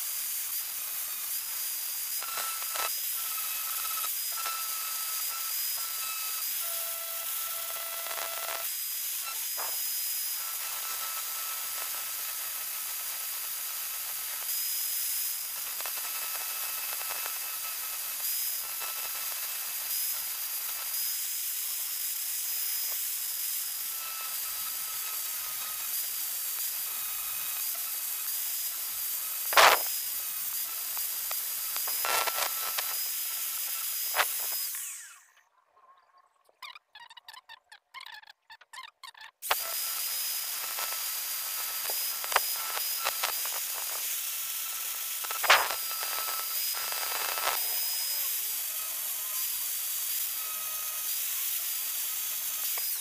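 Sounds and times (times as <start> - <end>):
angle grinder cutting steel: 0.0 - 35.4, 39.4 - 53.0.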